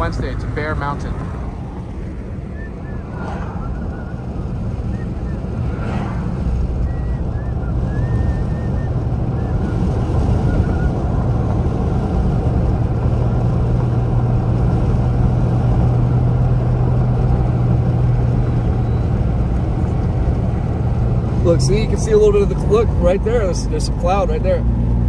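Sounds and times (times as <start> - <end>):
car interior road drone: 0.0 - 25.0
low hum: 1.2 - 21.4.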